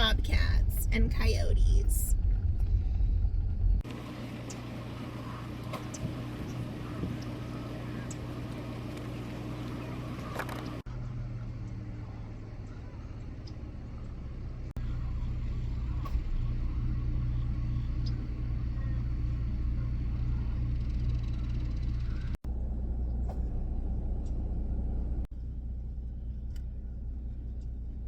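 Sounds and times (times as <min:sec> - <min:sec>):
minivan engine and road noise: 0:00.0 - 0:28.0.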